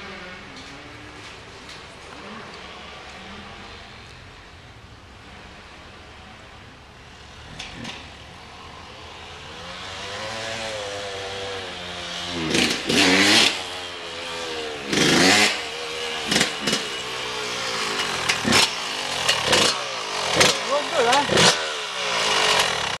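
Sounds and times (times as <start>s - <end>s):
engine running and revving: 0.0s - 4.4s, 5.2s - 23.0s.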